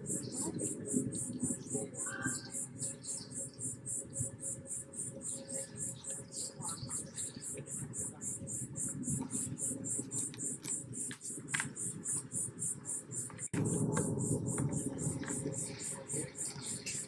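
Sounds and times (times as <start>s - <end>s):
insect calling in high pulses: 0.0s - 17.0s
steady low hum: 0.0s - 17.0s.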